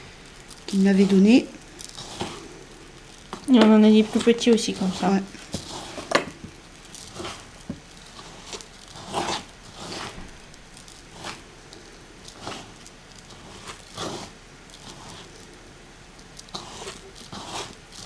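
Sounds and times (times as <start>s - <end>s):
hands raking grains in bowl: 0.0s - 15.6s, 16.2s - 18.0s.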